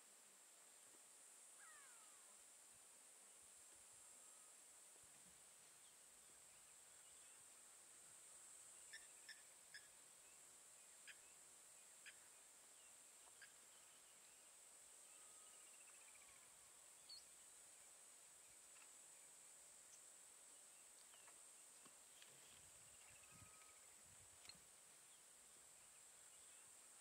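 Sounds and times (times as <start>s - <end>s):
high-pitched insect hum: 0.0s - 27.0s.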